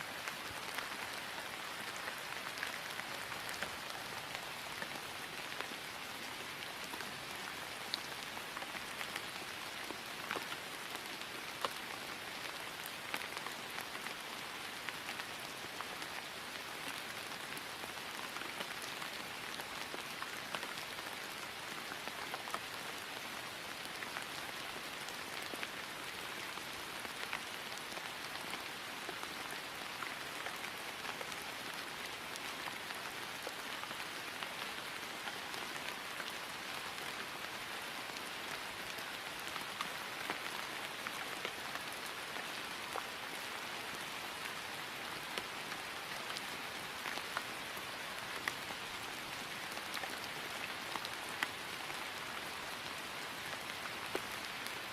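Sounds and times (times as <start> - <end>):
rain falling on grass: 0.0 - 54.9.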